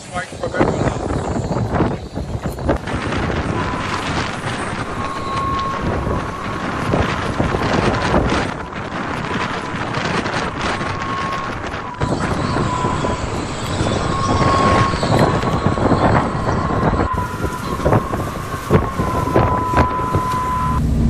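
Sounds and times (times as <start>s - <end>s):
storm wind blasting microphone: 0.0s - 21.0s
thin steady whistle: 0.2s - 20.8s.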